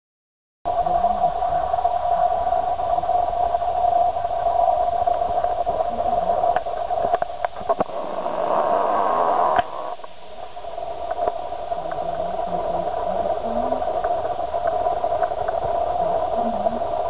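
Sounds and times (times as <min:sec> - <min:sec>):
loud hum with hiss: 0:00.7 - 0:17.0.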